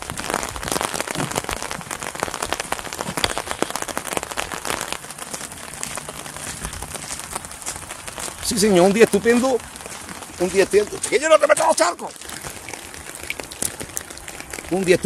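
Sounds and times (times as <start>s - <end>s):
raindrops hitting an umbrella: 0.0s - 15.0s
steady rain falling: 0.0s - 15.0s.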